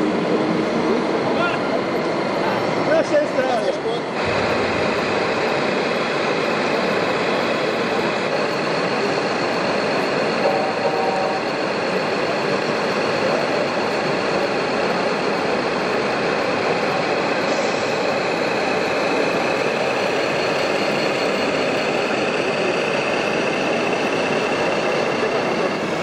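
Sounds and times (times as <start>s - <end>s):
model truck diesel engine sound: 0.0s - 26.0s.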